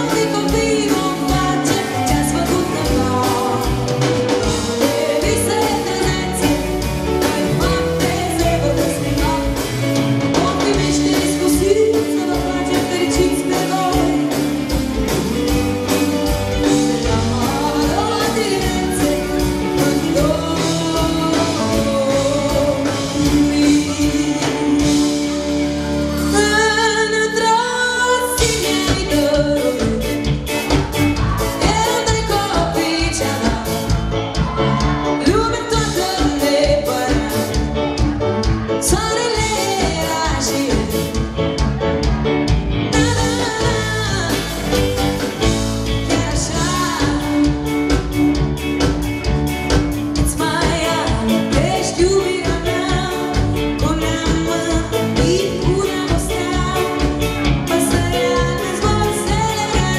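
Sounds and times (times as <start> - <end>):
woman singing: 0.0 - 41.4, 42.9 - 48.1, 50.1 - 59.9
pop band playing: 0.0 - 59.9.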